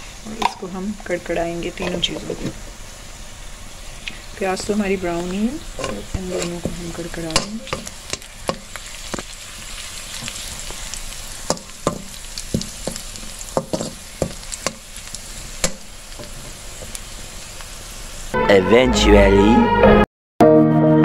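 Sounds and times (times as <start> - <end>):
onions sizzling in hot oil: 0.0 - 18.4.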